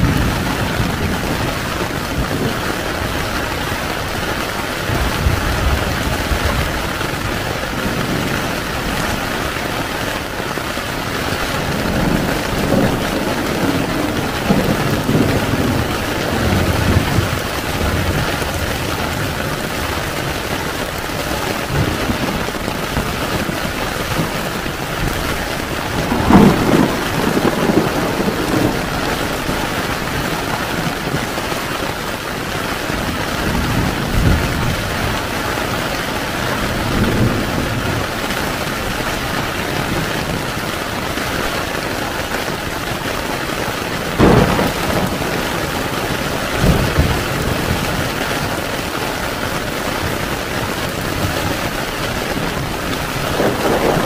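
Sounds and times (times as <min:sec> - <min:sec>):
heavy rain on a tent: 0:00.0 - 0:54.0
thunder rumbling: 0:00.0 - 0:54.0.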